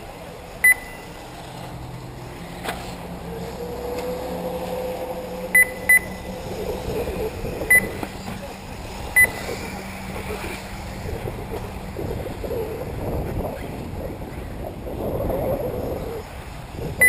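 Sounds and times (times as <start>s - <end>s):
rc cars whining: 0.0s - 17.0s.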